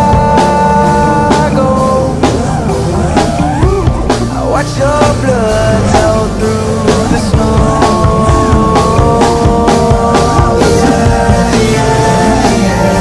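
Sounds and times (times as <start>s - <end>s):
drum kit beat: 0.0s - 13.0s
pitch-bending lead melody: 0.0s - 13.0s
rock music: 0.0s - 13.0s.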